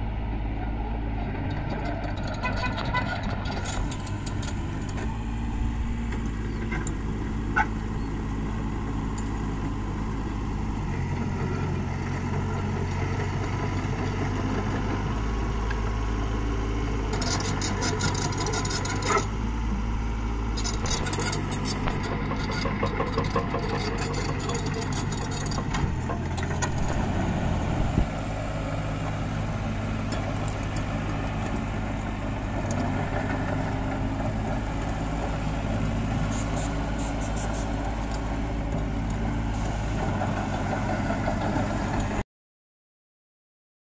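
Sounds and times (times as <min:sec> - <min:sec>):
diesel excavator engine running: 0:00.0 - 0:42.2.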